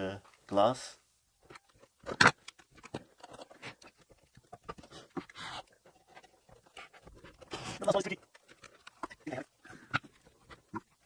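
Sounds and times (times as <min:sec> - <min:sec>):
screwdriver knocking and scraping: 0:01.4 - 0:11.0.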